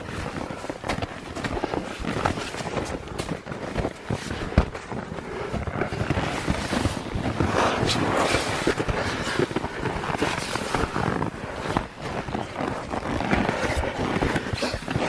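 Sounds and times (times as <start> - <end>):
boots crunching through snow: 0.0 - 15.0
clothing rustling: 0.0 - 15.0.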